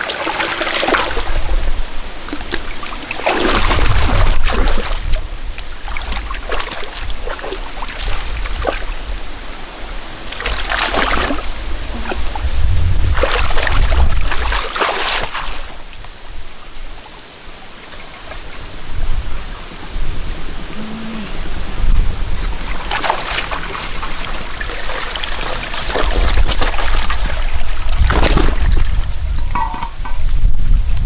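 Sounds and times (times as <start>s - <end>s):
muddy water splashing: 0.0s - 29.6s.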